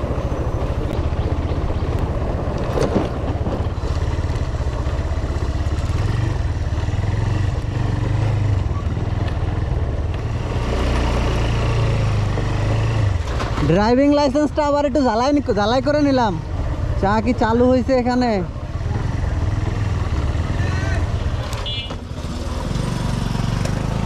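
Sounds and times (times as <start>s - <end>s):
motorcycle engine running: 0.0s - 13.3s, 15.8s - 24.0s.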